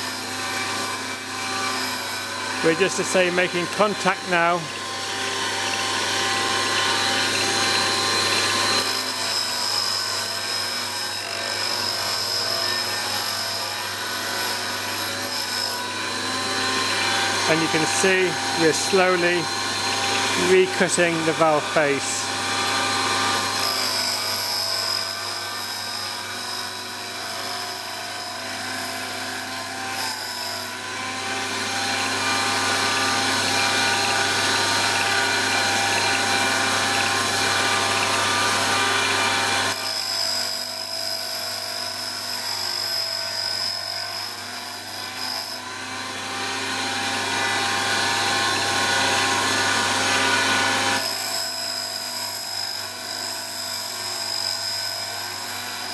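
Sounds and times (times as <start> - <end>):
grinding wheel grinding valve: 0.0 - 45.9, 46.6 - 55.9.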